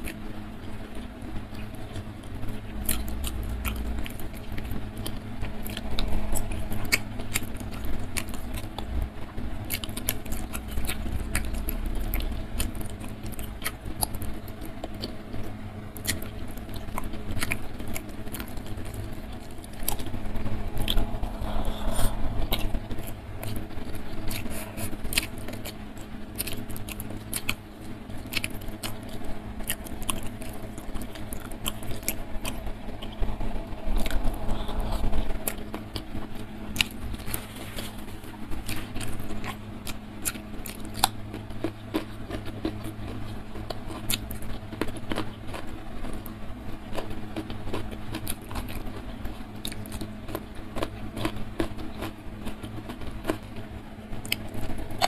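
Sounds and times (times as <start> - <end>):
chewing with wet mouth clicks: 0.0 - 55.0
low hum: 0.0 - 55.0.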